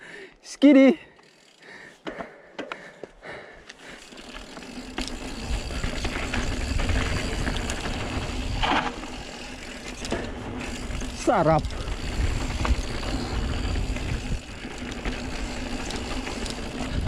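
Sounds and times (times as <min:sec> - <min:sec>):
bike clicks and rattles: 0:01.1 - 0:17.0
bike tyres rolling on dirt: 0:01.2 - 0:17.0.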